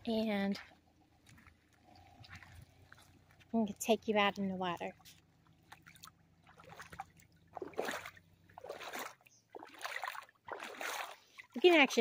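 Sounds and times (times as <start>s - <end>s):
feet wading in water: 0.6s - 12.0s.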